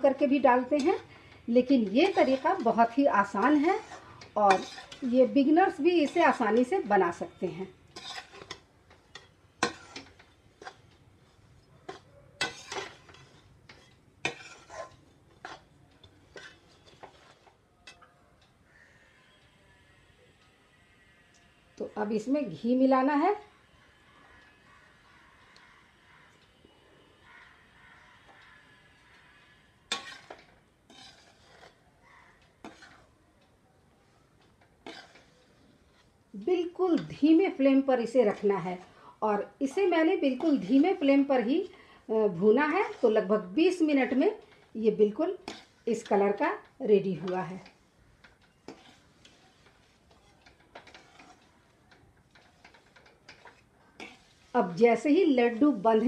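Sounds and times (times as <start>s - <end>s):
spoon scraping metal pan: 0.0s - 18.1s, 27.5s - 33.2s, 34.4s - 56.0s.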